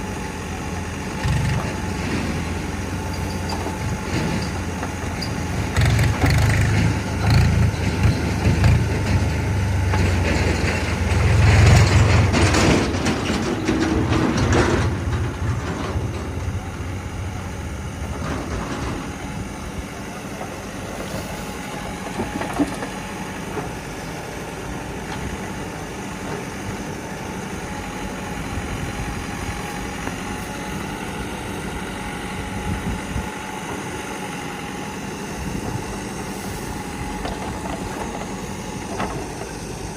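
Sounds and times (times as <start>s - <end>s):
heavy diesel engine: 0.0s - 39.9s.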